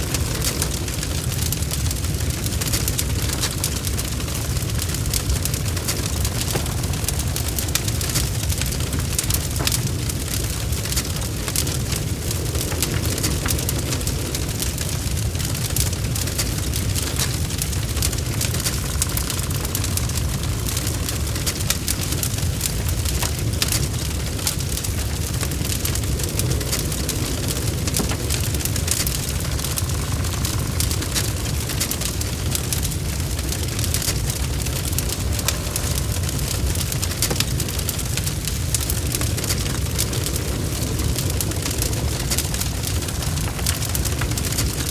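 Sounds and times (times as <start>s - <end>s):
low rumble: 0.0s - 44.9s
wood fire crackling: 0.0s - 44.9s.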